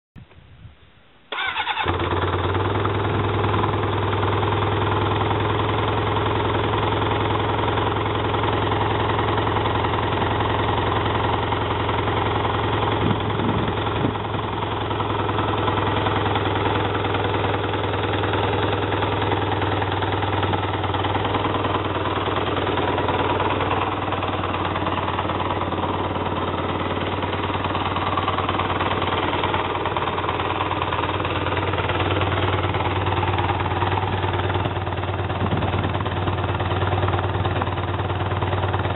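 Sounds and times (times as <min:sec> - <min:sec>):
motorcycle engine idling: 0:01.3 - 0:38.9
motorcycle engine starting: 0:01.3 - 0:38.9.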